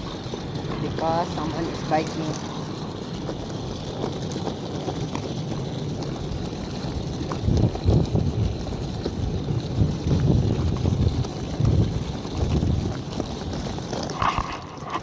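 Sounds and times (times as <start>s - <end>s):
suitcase wheels rumbling on pavement: 0.0s - 15.0s
wind buffeting microphone: 0.0s - 15.0s.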